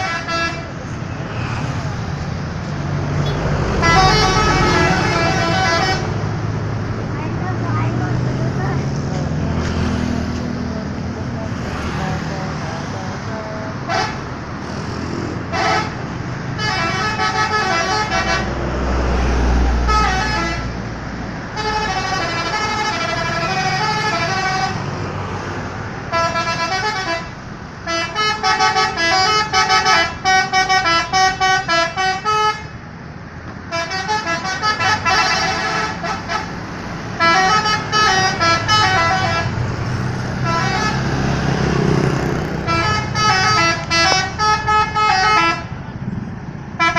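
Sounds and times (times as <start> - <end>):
multi-tone bus horns tooting: 0.0 - 1.3, 3.1 - 6.5, 10.3 - 20.9, 21.5 - 25.0, 26.0 - 32.8, 33.7 - 46.0.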